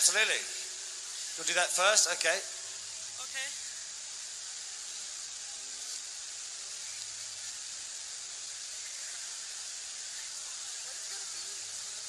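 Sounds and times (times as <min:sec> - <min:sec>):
faint distant voices: 0:00.0 - 0:12.0
steady background hiss: 0:00.0 - 0:12.0.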